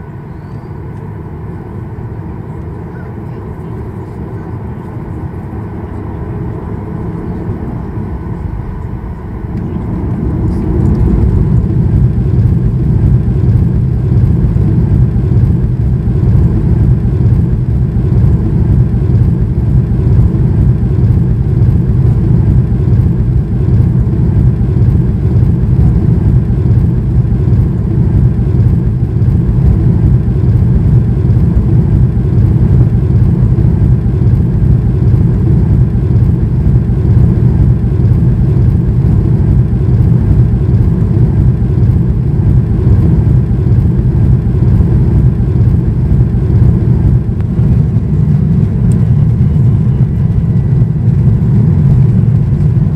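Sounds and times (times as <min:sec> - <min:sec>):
aircraft cabin engine rumble: 0:00.0 - 0:52.9.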